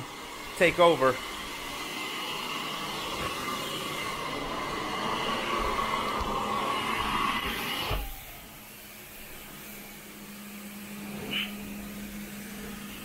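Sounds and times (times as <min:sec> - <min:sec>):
vacuum hose suction rush: 0:00.0 - 0:13.0.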